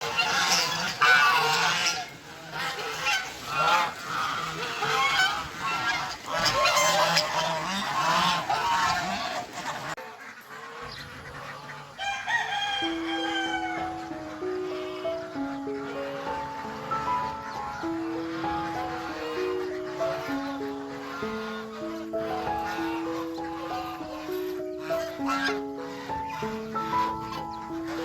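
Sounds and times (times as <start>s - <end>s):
geese honking: 0.0s - 28.0s
poultry calls: 0.0s - 28.0s
soft music: 0.0s - 28.0s.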